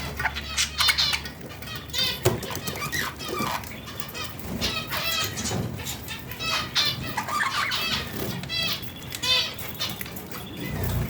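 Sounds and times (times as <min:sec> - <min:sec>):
chicks raspy begging chirps: 0:00.0 - 0:11.0.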